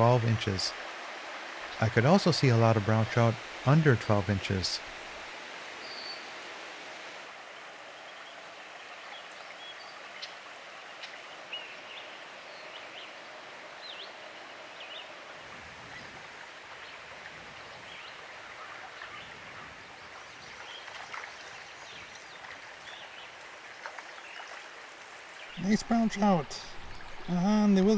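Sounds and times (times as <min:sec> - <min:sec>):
creek water running over rocks: 0:00.0 - 0:27.9.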